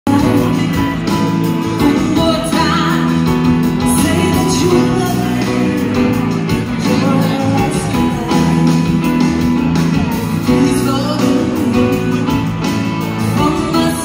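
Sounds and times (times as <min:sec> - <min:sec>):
guitar: 0:00.0 - 0:14.0
live band music: 0:00.0 - 0:14.0
woman singing into microphone: 0:00.1 - 0:08.9, 0:10.4 - 0:12.4, 0:13.2 - 0:14.0.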